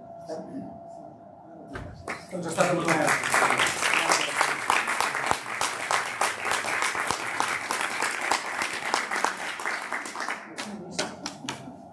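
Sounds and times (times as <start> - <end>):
audience applauding: 2.1 - 11.7.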